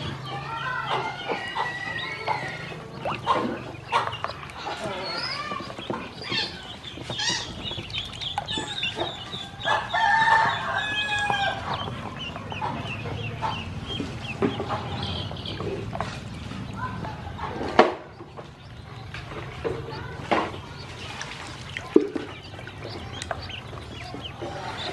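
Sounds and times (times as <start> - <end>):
ducklings peeping: 0.0 - 24.9.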